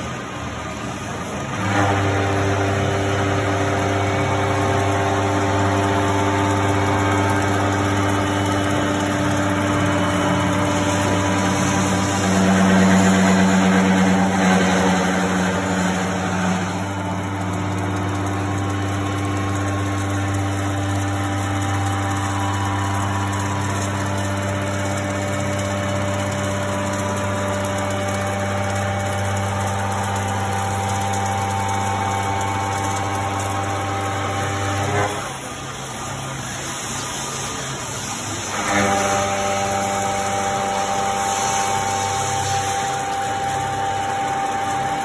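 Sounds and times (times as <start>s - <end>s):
milling machine humming: 0.0s - 45.0s.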